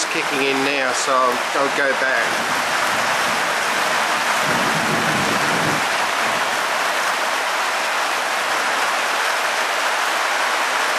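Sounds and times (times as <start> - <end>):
heavy rain hissing: 0.0 - 10.9.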